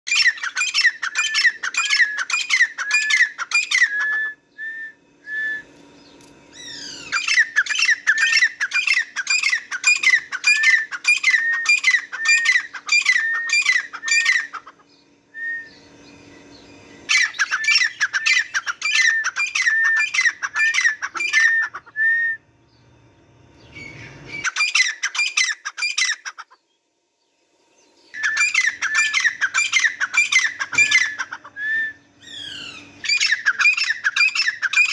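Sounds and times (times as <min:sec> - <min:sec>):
francolin calling: 0:00.1 - 0:22.8, 0:23.6 - 0:26.7, 0:27.9 - 0:34.9.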